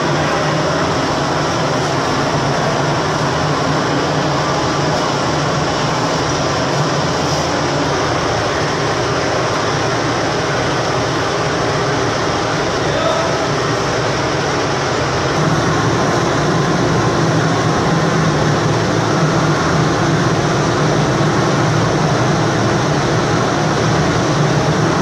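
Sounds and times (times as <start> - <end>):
low hum: 0.0 - 25.0
machine rushing noise: 0.0 - 25.0.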